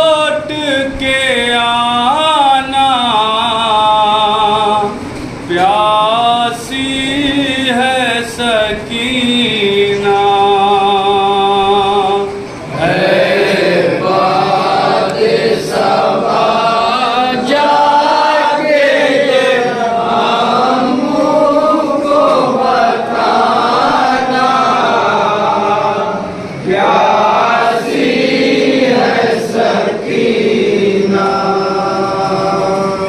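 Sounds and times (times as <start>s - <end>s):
men singing together: 0.0s - 33.0s.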